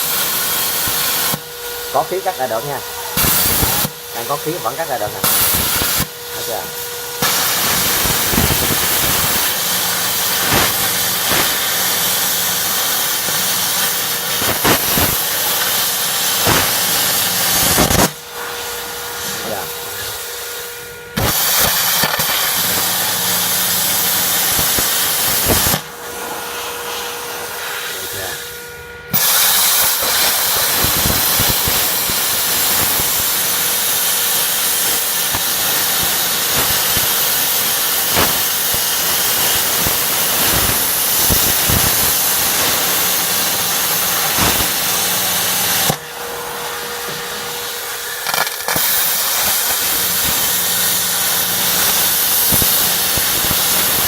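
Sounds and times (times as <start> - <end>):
machine humming: 0.0 - 48.3
plasma cutter hissing: 0.0 - 54.0.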